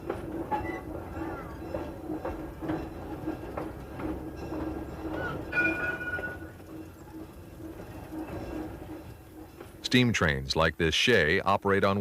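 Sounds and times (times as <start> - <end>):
train engine beating steadily: 0.0 - 12.0.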